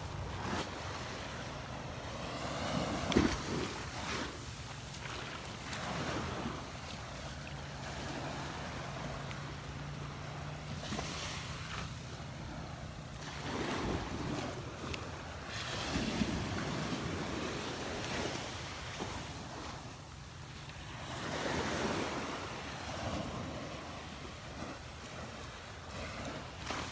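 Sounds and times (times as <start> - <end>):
small waves washing on sand: 0.0 - 26.9.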